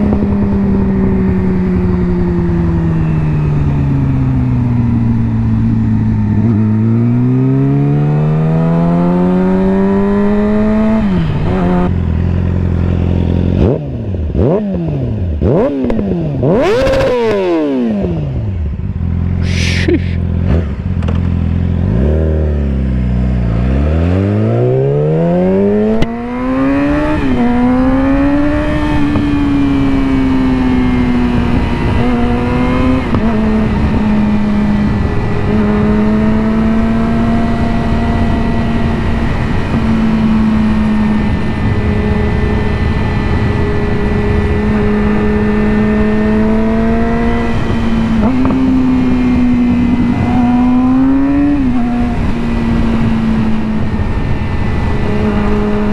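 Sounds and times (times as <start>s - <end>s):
wind noise: 0.0s - 22.8s, 23.4s - 55.9s
motorcycle engine revving: 0.0s - 55.9s.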